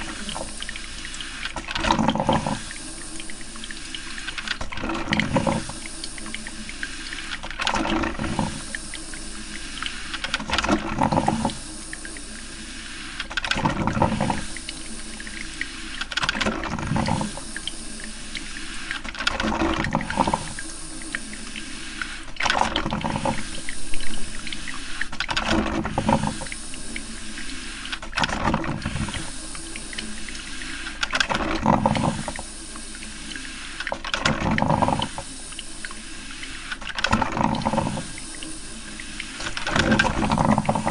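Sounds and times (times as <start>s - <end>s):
coffee maker gurgling: 0.0s - 40.9s.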